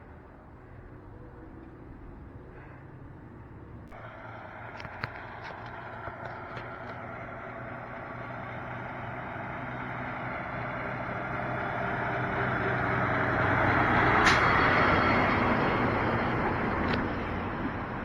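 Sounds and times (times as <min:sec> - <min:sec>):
garbage truck engine running: 0:01.1 - 0:18.0.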